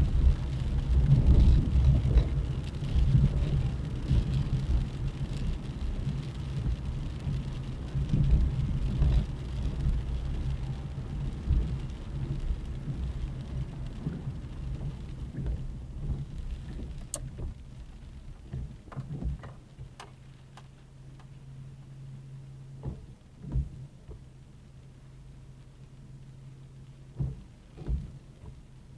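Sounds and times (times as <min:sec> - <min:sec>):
tyre and road noise: 0:00.0 - 0:25.1
rain: 0:00.0 - 0:28.9.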